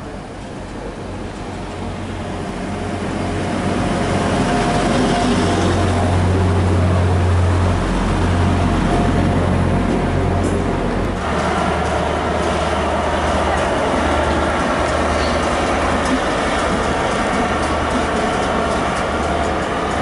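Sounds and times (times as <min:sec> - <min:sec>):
diesel train engine drone: 0:00.0 - 0:20.0
train coaches rolling: 0:00.0 - 0:20.0.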